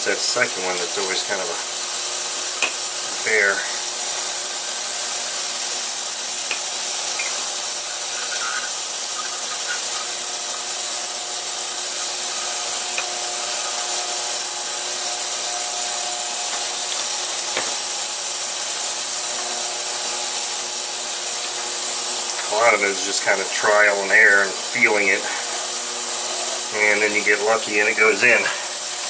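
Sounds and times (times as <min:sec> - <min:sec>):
ultrasonic cleaner hissing: 0:00.0 - 0:29.0.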